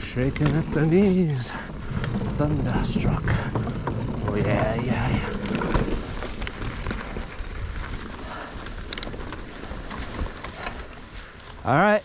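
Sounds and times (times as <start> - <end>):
bike rattling: 0.0 - 12.0
bike tyres on dirt: 0.0 - 12.0.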